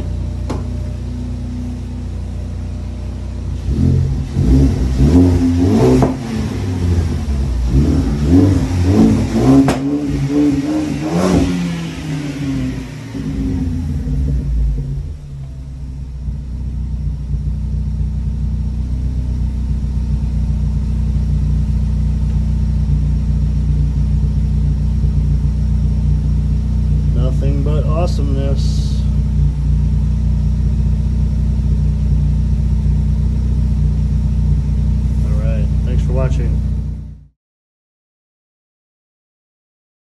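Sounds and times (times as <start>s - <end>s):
car engine idling and revving: 0.0s - 37.3s.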